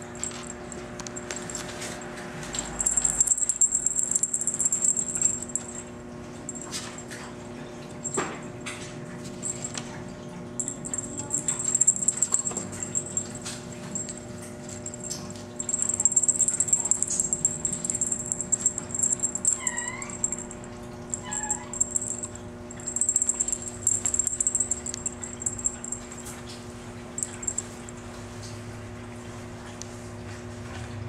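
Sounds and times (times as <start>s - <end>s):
crackly high-pitched rustling: 0.0s - 10.0s, 10.6s - 28.6s.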